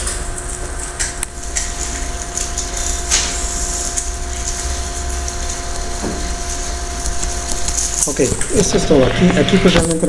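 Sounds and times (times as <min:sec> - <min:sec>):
room hum and low rumble: 0:00.0 - 0:10.0.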